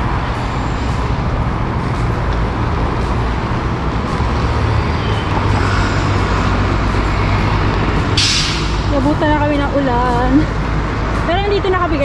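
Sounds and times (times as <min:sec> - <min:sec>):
large vehicle engine running: 0:00.0 - 0:12.0
road noise: 0:00.0 - 0:12.0.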